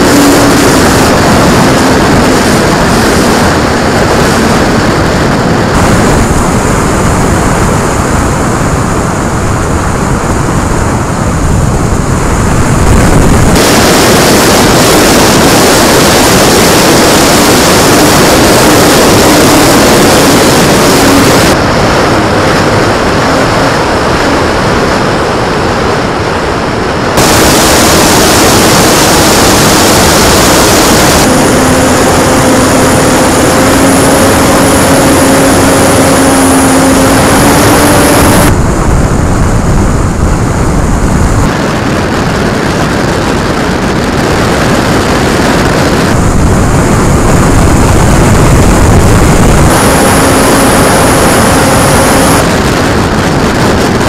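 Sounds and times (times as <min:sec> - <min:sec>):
model plane motor drone: 0:00.0 - 0:24.7, 0:27.2 - 0:39.8, 0:45.2 - 0:53.4
wind rush over camera: 0:00.0 - 0:54.0.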